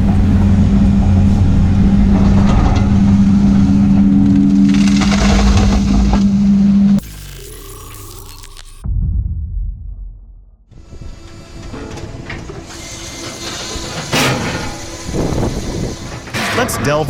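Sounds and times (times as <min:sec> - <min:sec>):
heavy machine engine humming: 0:00.0 - 0:07.4, 0:10.7 - 0:17.0.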